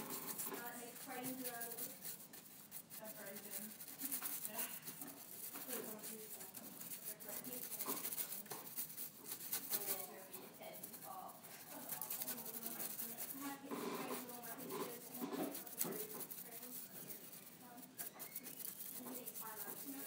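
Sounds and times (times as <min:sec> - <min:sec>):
faint indistinct voices: 0:00.0 - 0:20.0.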